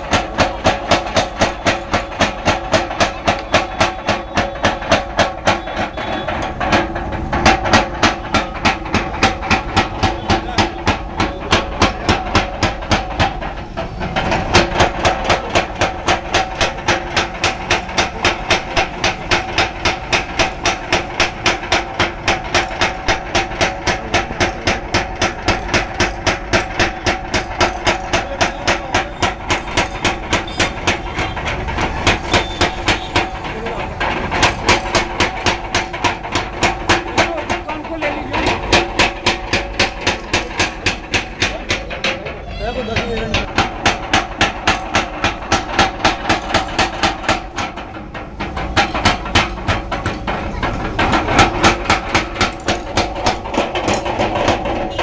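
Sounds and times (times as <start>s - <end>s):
power hammer striking hot steel: 0.0s - 42.2s, 43.3s - 55.0s.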